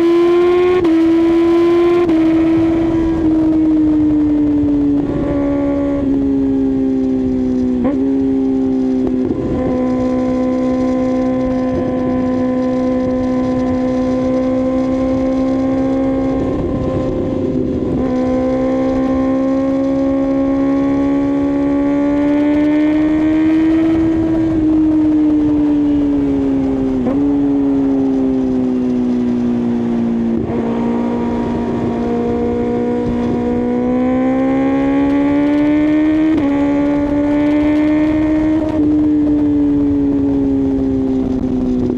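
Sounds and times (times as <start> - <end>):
motorcycle engine shifting gears: 0.0 - 41.9.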